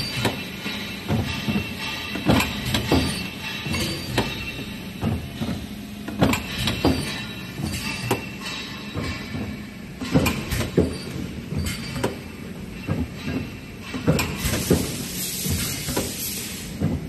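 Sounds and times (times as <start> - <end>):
metallic clanks and thuds: 0.0 - 17.0.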